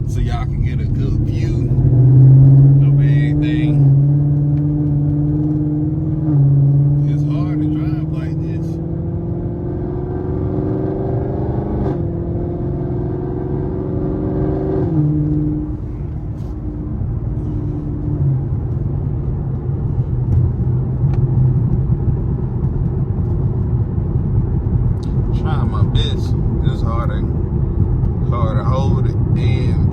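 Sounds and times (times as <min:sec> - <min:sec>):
car engine accelerating through gears: 0:00.0 - 0:29.9.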